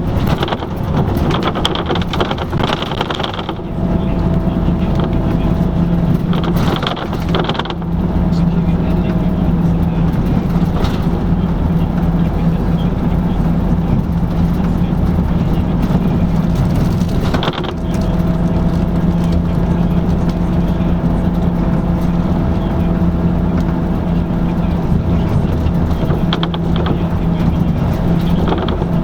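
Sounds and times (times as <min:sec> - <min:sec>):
bus engine drone: 0:00.0 - 0:29.0
road noise: 0:00.0 - 0:29.0.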